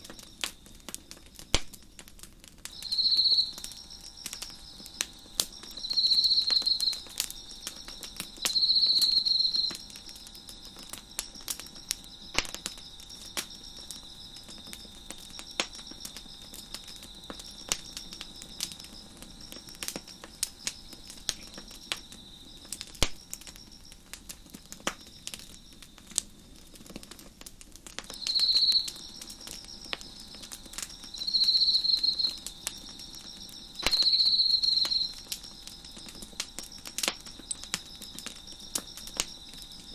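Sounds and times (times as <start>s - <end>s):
loud cricket trill: 0.0s - 27.2s, 28.0s - 39.9s
crickets chirping: 0.0s - 39.9s
wood fire crackling and popping: 0.0s - 39.9s.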